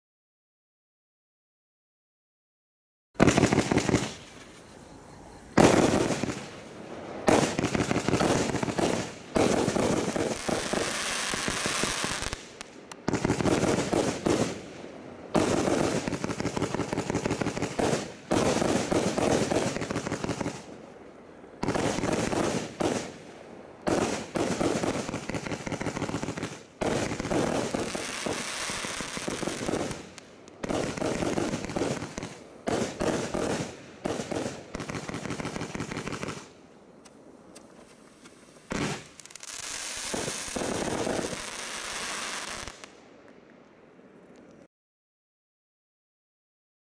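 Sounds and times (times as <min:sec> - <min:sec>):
fireworks barrage volleys: 0:03.2 - 0:36.6, 0:37.4 - 0:43.0.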